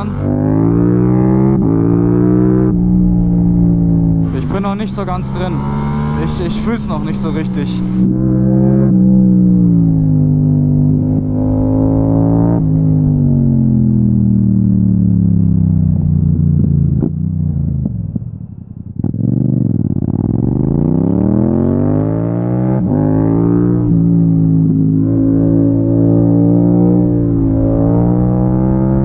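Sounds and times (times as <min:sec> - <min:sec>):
motorcycle engine: 0:00.0 - 0:29.0.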